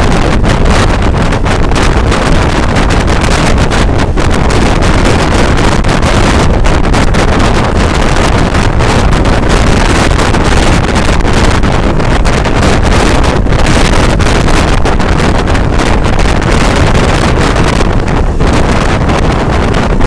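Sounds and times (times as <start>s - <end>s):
moving train rumble: 0.0s - 20.0s
wind buffeting microphone: 0.0s - 20.0s.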